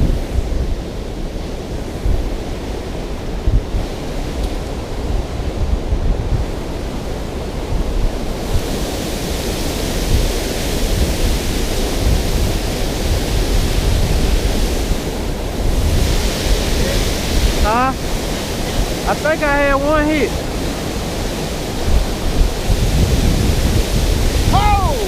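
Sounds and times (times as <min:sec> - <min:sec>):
water rushing: 0:00.0 - 0:25.0
wind buffeting microphone: 0:00.0 - 0:25.0.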